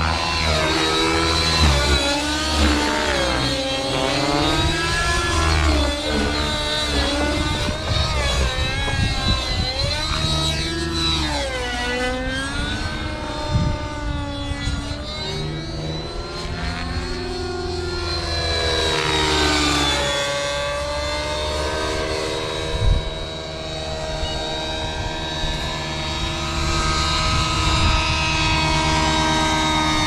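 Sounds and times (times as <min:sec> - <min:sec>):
high whine: 0:00.0 - 0:30.0
model helicopter engine and rotors: 0:00.0 - 0:30.0.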